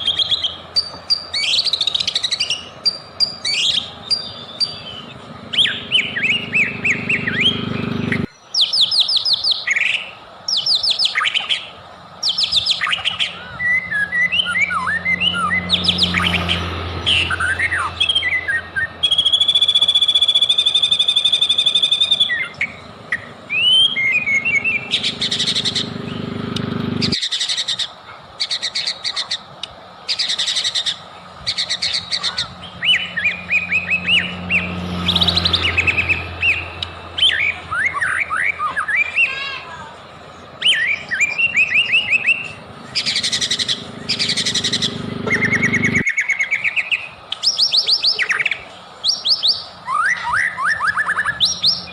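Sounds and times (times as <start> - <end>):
bird singing whistled song: 0.0 - 26.3, 27.0 - 29.4, 30.1 - 39.5, 40.6 - 51.9.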